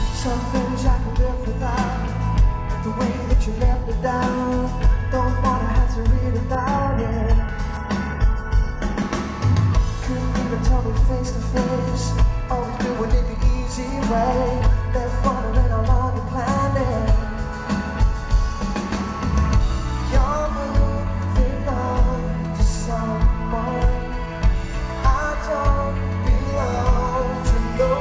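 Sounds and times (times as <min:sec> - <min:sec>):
lead vocals: 0:00.0 - 0:08.3, 0:09.5 - 0:28.0
live pop-rock band: 0:00.0 - 0:28.0.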